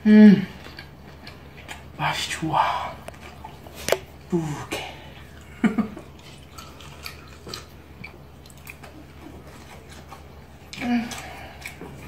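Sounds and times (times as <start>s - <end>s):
wet chewing and lip smacks: 0.5s - 2.0s, 2.7s - 4.3s, 5.1s - 12.0s.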